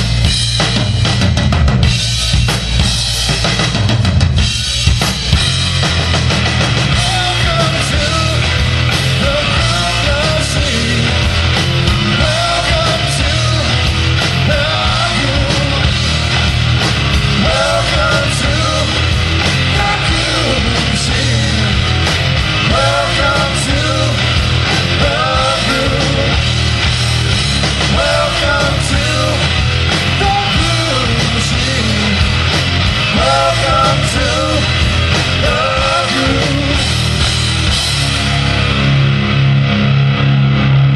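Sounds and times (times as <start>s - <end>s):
punk rock band playing: 0.0s - 40.9s.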